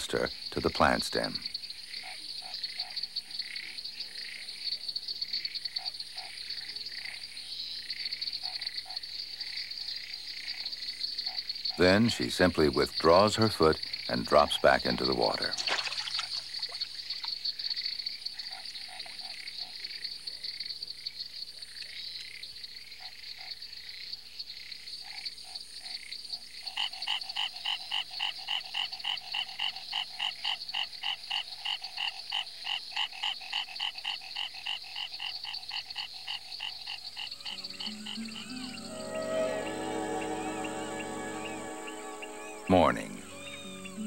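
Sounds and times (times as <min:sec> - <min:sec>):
tree frog calling: 0:00.0 - 0:20.1, 0:25.0 - 0:44.0
insects trilling: 0:00.0 - 0:44.0.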